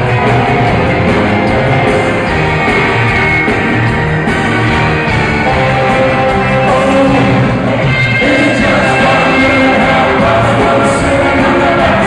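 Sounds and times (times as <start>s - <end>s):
live ska band playing: 0.0s - 12.0s.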